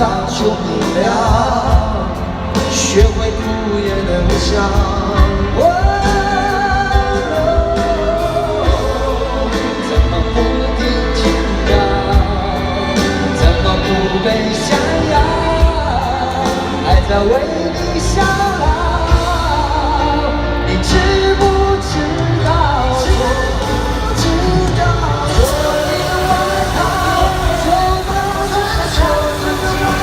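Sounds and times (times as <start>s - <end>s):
person singing: 0.0s - 30.0s
pop-rock band playing: 0.0s - 30.0s.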